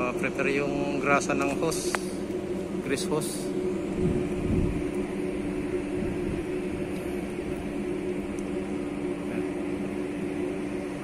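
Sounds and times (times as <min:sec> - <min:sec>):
low rumble: 0:00.0 - 0:11.0
machinery drone with hum tones: 0:00.0 - 0:11.0.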